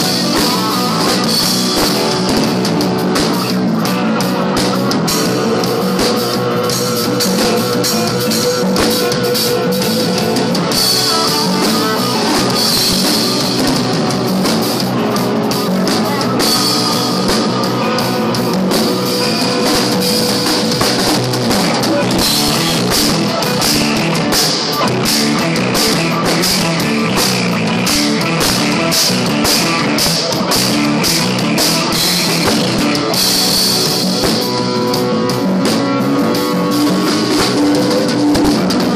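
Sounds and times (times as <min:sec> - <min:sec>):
drum kit with cymbals: 0:00.0 - 0:38.9
electric guitar: 0:00.0 - 0:38.9.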